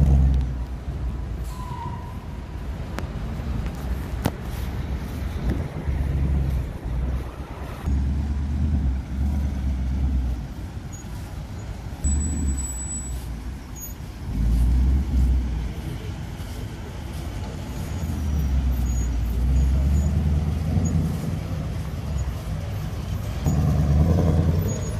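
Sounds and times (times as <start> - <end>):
car exhaust rumbling: 2.1 - 24.9.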